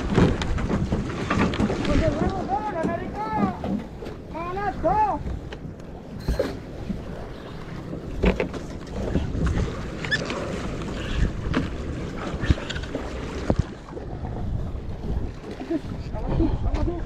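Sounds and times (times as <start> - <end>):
water sloshing: 0.0 - 17.0
wind buffeting microphone: 0.0 - 17.0.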